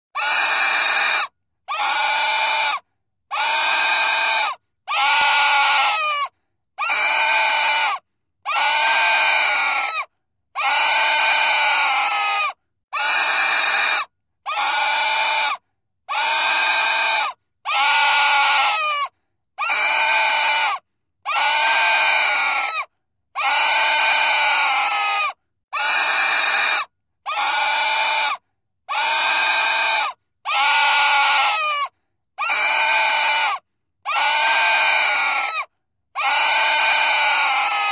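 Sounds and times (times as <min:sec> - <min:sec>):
pig squealing: 0:00.2 - 0:37.9.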